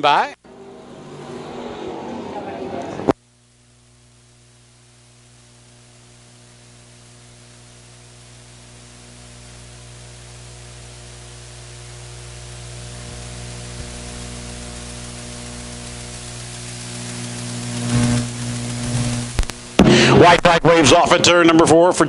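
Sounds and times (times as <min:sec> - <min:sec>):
electrical mains hum: 0:02.7 - 0:22.0
static hiss: 0:03.1 - 0:21.7.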